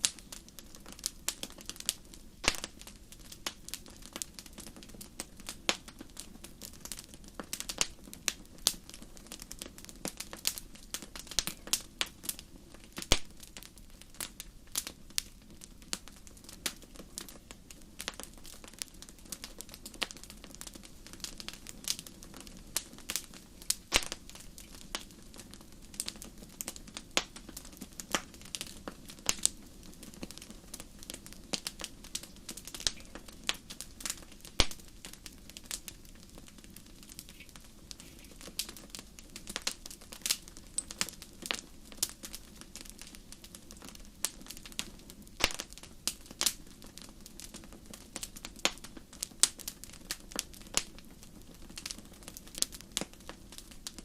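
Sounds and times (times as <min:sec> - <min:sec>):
low rush of burning: 0:00.0 - 0:48.0
wood fire crackling: 0:00.0 - 0:54.0.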